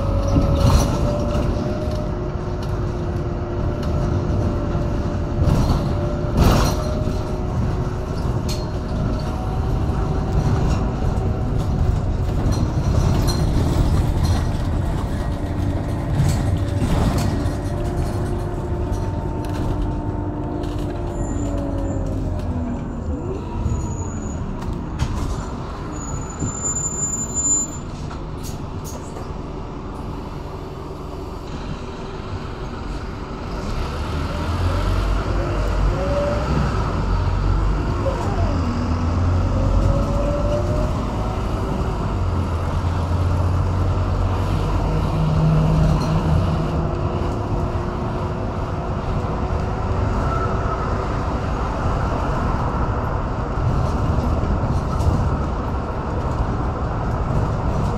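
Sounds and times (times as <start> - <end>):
bus diesel engine rumble: 0.0 - 57.9.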